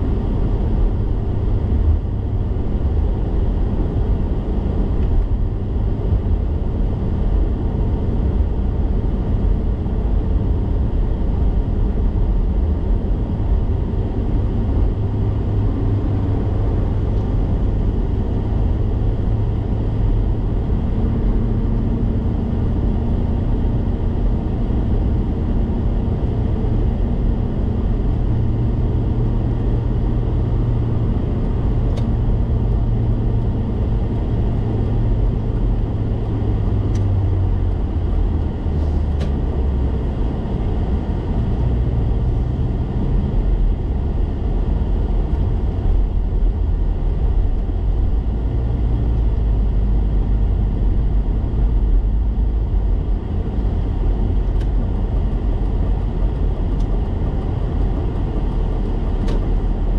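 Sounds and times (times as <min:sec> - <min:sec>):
car engine and tyres rumbling: 0:00.0 - 0:59.9
low hum: 0:00.0 - 0:59.9.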